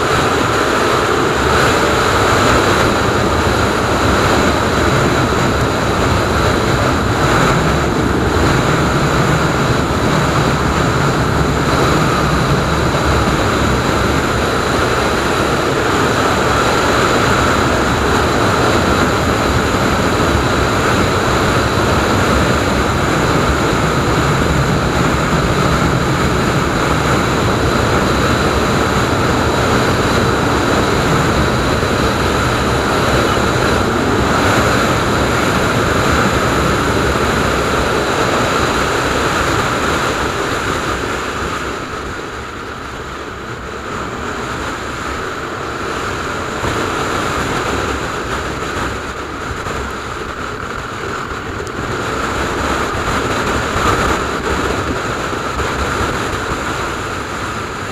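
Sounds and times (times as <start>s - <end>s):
motorcycle engine: 0.0s - 57.9s
wind rushing over microphone: 0.0s - 57.9s.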